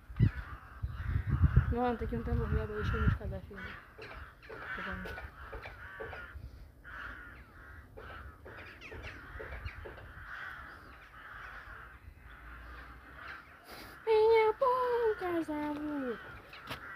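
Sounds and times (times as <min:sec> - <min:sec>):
crows cawing: 0:00.0 - 0:16.9
loud drawn-out crow call: 0:00.1 - 0:16.9.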